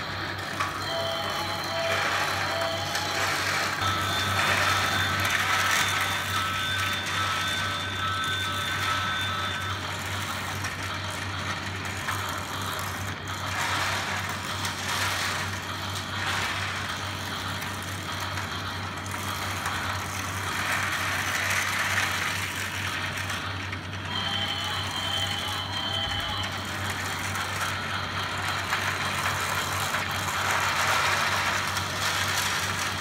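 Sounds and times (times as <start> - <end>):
constant low hum: 0.0 - 33.0
toy train motors whirring: 0.0 - 33.0.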